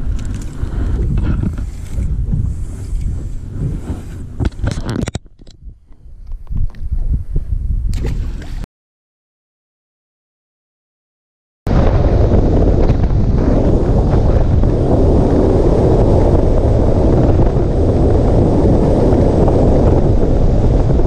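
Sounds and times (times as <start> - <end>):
wind rushing over microphone: 0.0 - 8.6, 11.7 - 21.0.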